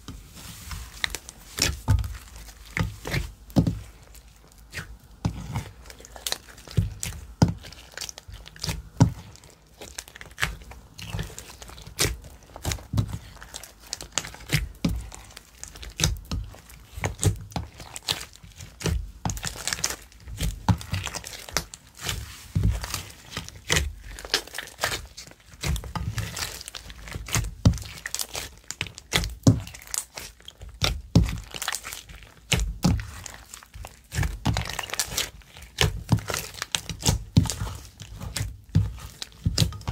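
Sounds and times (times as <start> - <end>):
slime popping and crackling: 0.5 - 39.9.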